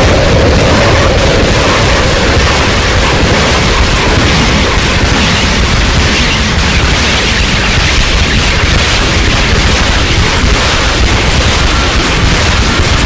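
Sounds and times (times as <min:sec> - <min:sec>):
distorted turntable noise rumble: 0:00.0 - 0:13.0
hissing wash: 0:00.0 - 0:13.0
mid-pitched drone: 0:00.0 - 0:13.0.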